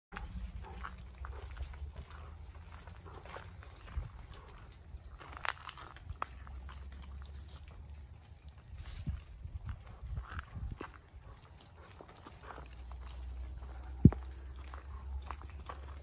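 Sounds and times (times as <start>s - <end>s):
footsteps on a trail: 0.1s - 16.0s
insects trilling: 0.2s - 16.0s.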